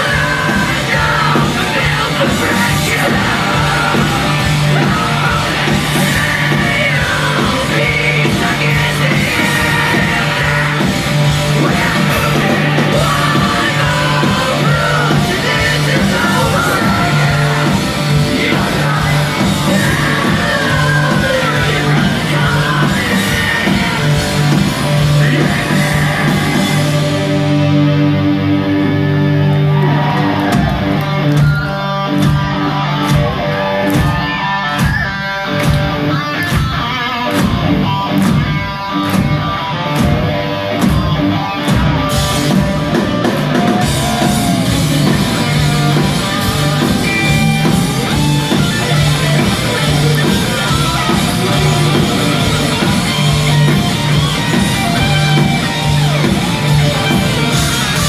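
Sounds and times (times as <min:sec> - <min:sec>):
drum and guitar hits: 0:00.0 - 0:27.7, 0:30.0 - 0:58.0
live hard rock band playing: 0:00.0 - 0:58.0.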